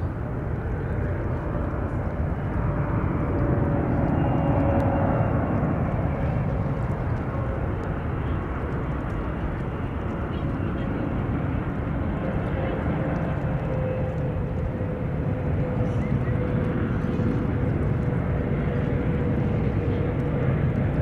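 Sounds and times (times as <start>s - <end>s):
faint engine whine: 0.0s - 21.0s
jet engines rushing: 0.0s - 21.0s.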